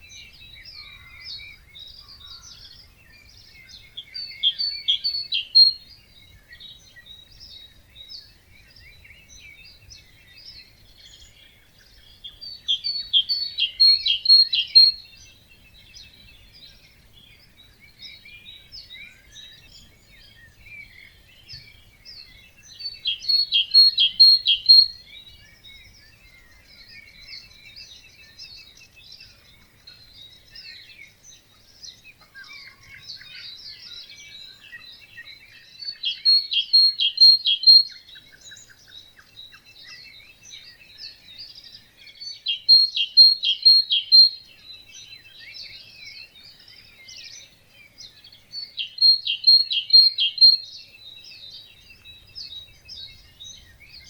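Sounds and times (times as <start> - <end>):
bird song phrase of rapid notes: 0.0 - 54.0
chirps and calls of birds: 0.0 - 54.0.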